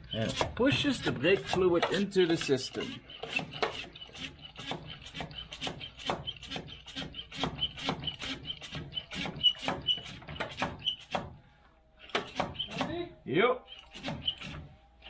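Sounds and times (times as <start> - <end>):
hand pump clicking and squeaking: 0.0 - 11.3, 12.0 - 13.1, 13.7 - 14.7.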